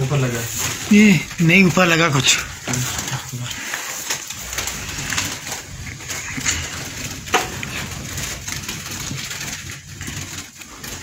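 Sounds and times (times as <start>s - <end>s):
birds rustling and calling: 0.0s - 11.0s.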